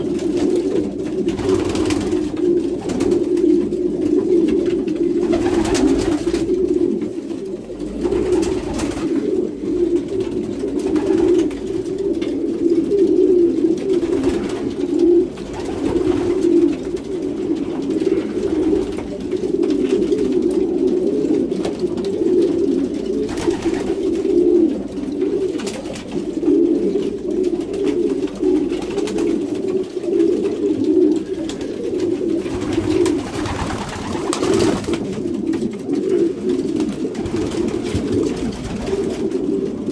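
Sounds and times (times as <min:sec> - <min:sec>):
wings flapping: 0:00.0 - 0:07.1, 0:07.8 - 0:12.4, 0:13.8 - 0:20.7, 0:21.3 - 0:39.9
pigeons cooing: 0:00.0 - 0:39.9.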